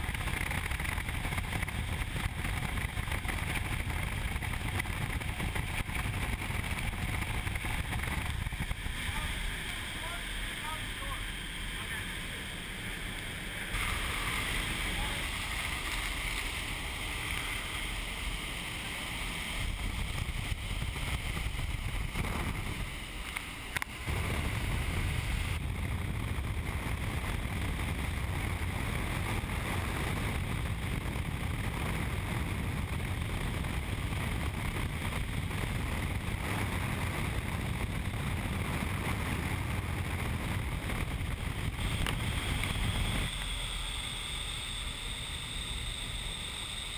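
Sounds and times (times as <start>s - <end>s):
wind tunnel airflow buffeting microphone: 0.0s - 46.9s.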